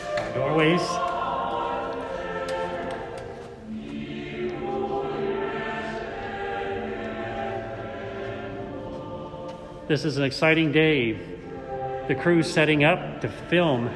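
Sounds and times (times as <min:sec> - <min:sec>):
choir holding long chords: 0:00.0 - 0:13.9.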